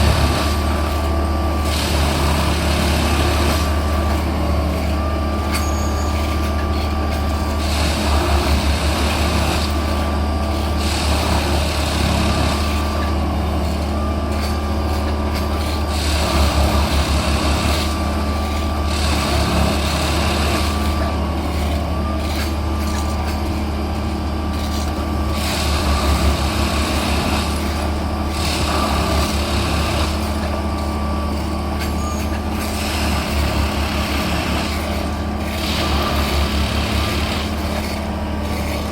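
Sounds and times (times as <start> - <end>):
low diesel drone: 0.0 - 38.9.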